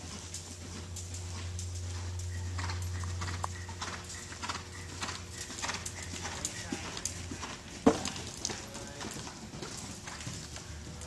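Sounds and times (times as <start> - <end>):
horse hoofbeats on dirt: 0.0 - 11.0.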